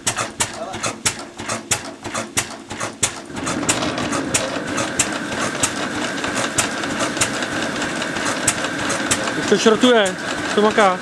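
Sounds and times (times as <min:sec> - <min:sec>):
grain mill grinding rattle: 0:00.0 - 0:11.0
stationary engine exhaust beats: 0:00.0 - 0:11.0.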